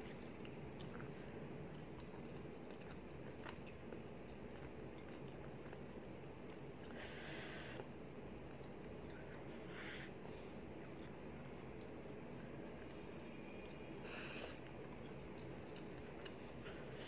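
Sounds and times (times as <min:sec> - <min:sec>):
quiet chewing: 0:00.0 - 0:17.0.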